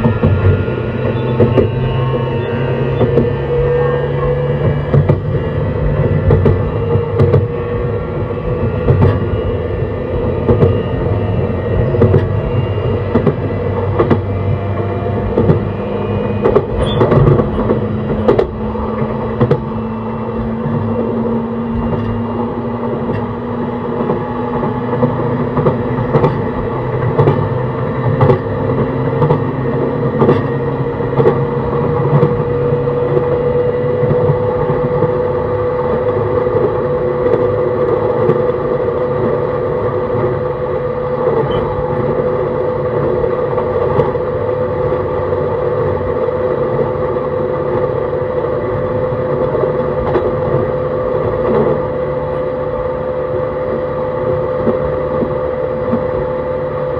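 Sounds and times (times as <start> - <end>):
rail-joint clicks: 0.0 - 7.6, 8.8 - 9.4, 10.4 - 11.1, 11.7 - 52.6
train motor hum: 0.0 - 56.9.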